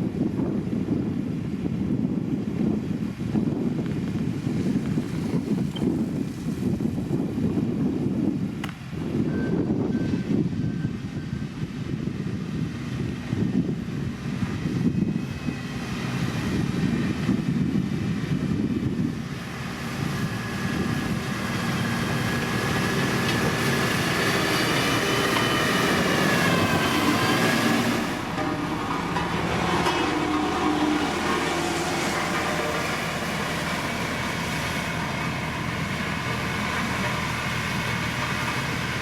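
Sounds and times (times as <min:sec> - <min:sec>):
diesel machine rumbling: 0:00.0 - 0:39.0.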